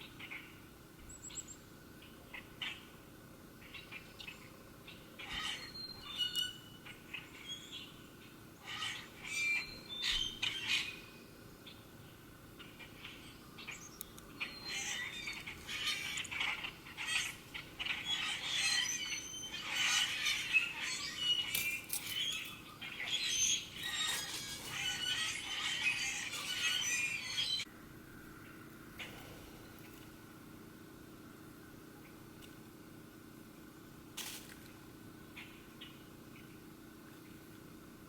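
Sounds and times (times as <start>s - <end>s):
birds chirping and trilling: 0.0s - 27.7s, 28.3s - 30.2s, 35.3s - 37.4s.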